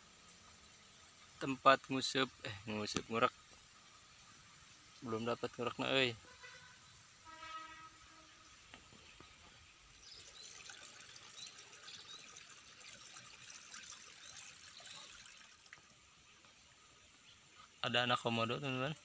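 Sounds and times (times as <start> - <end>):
faint trickling water: 0.0 - 19.0.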